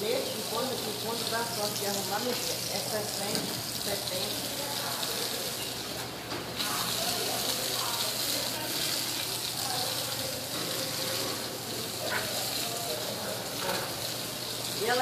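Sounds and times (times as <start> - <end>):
water from hose onto tiled floor: 0.0 - 15.0.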